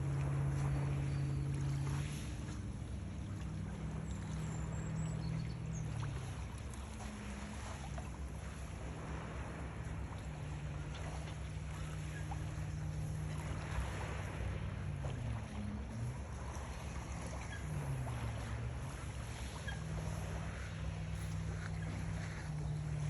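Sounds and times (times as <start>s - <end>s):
hiss of wind and sea: 0.0s - 23.0s
motorboat engine running: 0.0s - 23.0s.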